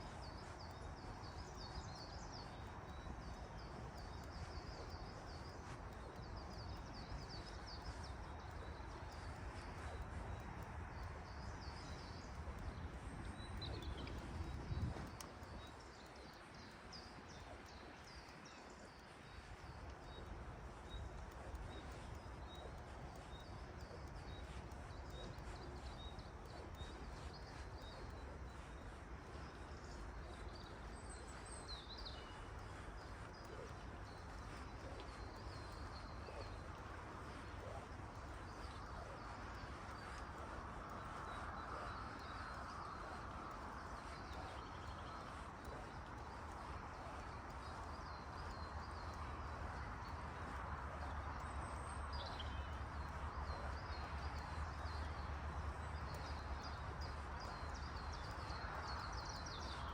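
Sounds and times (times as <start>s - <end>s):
songbirds chirping and singing: 0.0s - 59.9s
steady low rumble: 0.0s - 59.9s.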